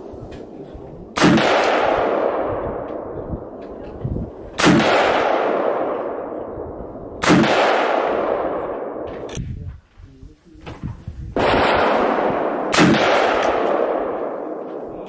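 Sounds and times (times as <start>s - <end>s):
rifle shots with echo: 0.4s - 9.4s, 11.4s - 15.0s.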